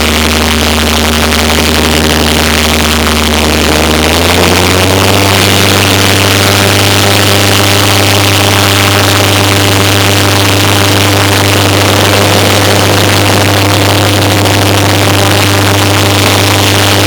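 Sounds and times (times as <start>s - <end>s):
diesel engine revving up: 0.0s - 17.0s.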